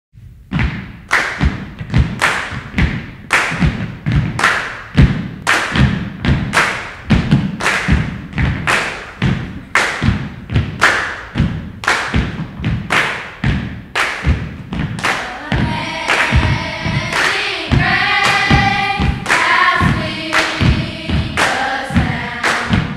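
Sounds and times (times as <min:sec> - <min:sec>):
rhythmic thumps: 0:00.4 - 0:22.9
sharp claps: 0:00.6 - 0:22.9.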